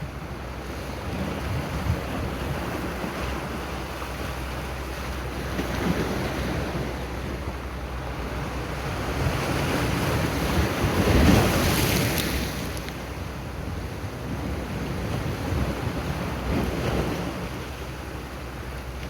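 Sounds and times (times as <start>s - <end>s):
wind rumbling on microphone: 0.0s - 4.3s, 5.3s - 18.3s
sea waves washing onto shore: 0.0s - 19.0s.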